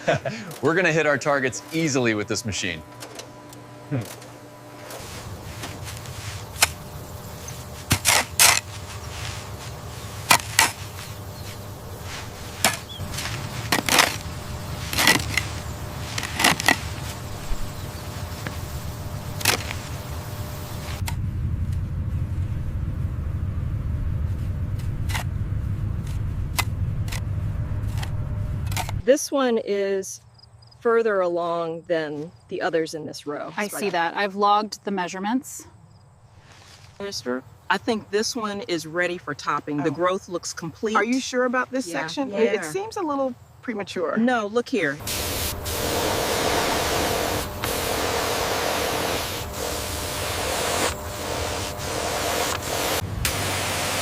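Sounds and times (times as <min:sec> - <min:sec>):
machinery humming: 0:00.0 - 0:29.2, 0:37.0 - 0:54.0.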